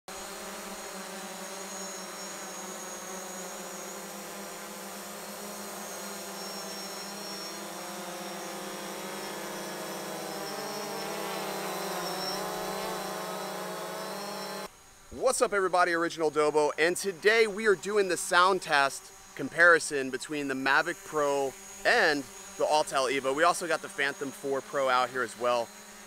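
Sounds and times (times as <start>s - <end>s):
drone propellers buzzing whine: 0.1s - 26.0s.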